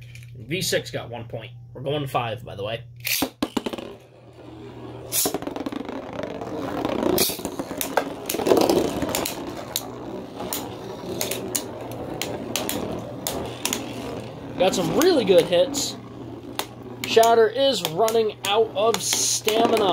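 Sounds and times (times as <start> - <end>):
spinning tops whirring and scraping: 3.0 - 19.9.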